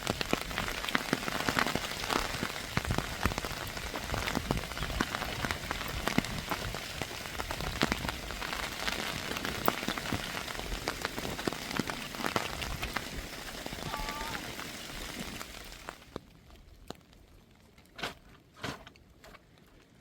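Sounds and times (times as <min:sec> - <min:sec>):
heavy rain on hard surface: 0:00.0 - 0:17.0.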